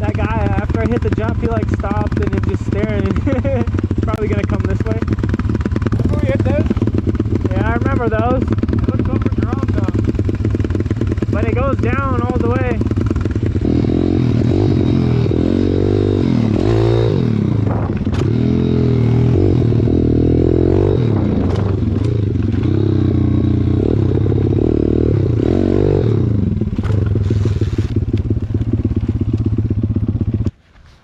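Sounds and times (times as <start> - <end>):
motorbike engine revving: 0.0 - 30.6.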